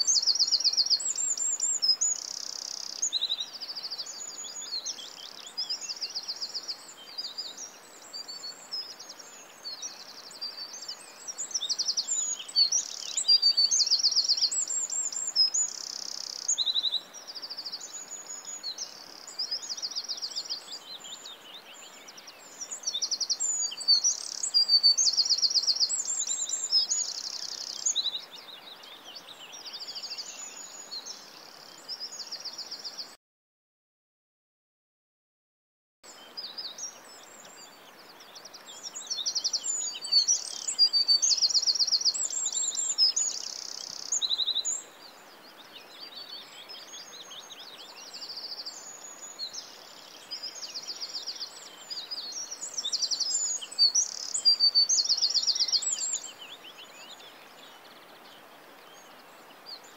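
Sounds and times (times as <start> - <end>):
songbird singing: 0.0 - 33.2, 36.0 - 59.9.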